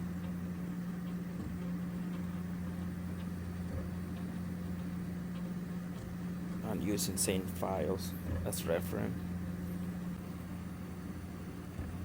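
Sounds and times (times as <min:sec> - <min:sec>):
printer humming with faint ticks: 0:00.0 - 0:12.0.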